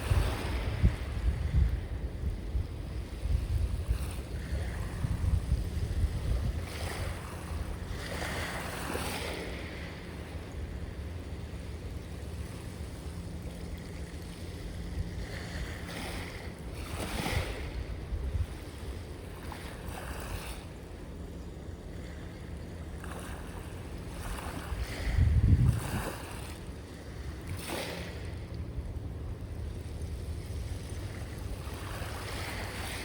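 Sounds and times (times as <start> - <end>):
wind rumble on microphone: 0.0 - 20.7, 21.7 - 33.0
sea waves breaking: 0.0 - 33.0.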